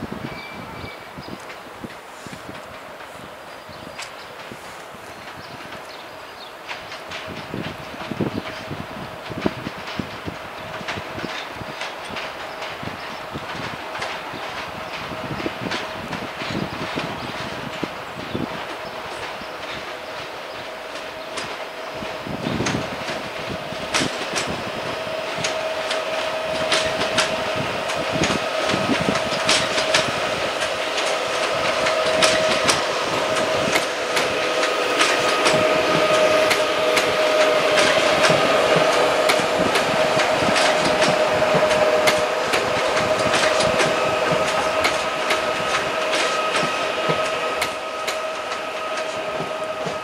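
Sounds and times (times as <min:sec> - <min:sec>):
electric train whine: 0:00.0 - 0:50.0
train wheels clattering: 0:00.0 - 0:50.0.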